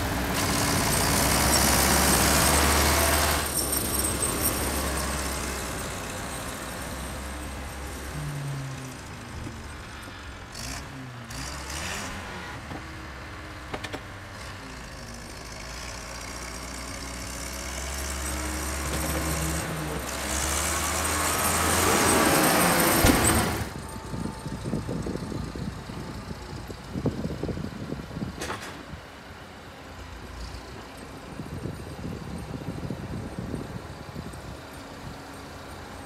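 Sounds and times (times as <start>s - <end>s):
diesel loader engine running: 0.0s - 36.0s.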